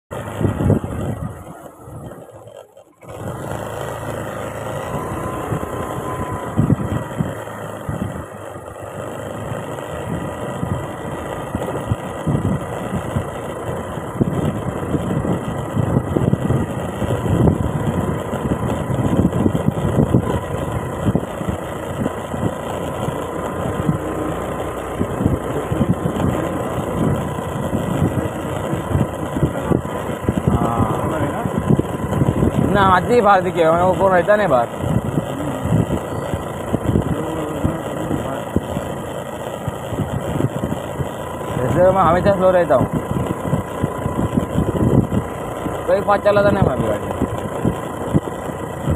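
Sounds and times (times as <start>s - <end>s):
scooter engine running: 0.1s - 48.9s
wind buffeting microphone: 0.2s - 48.9s.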